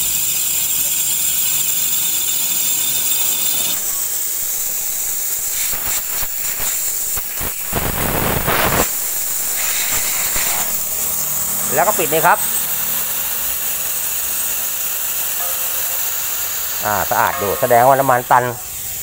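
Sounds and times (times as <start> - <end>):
gas hissing from a pipe: 0.0 - 19.0.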